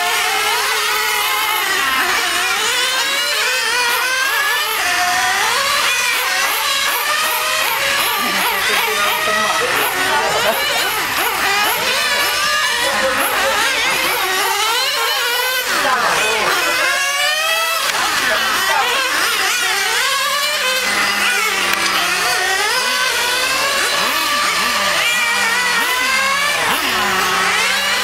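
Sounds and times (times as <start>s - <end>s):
small high-revving engines: 0.0s - 28.0s.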